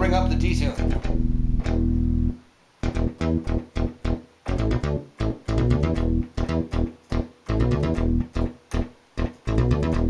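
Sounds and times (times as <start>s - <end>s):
synthesizer plucked bass notes: 0.0s - 10.0s.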